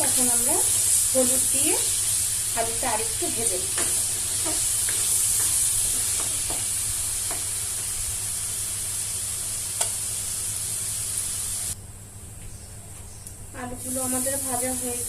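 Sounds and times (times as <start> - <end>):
potatoes sizzling in oil: 0.0 - 11.8, 13.8 - 15.0.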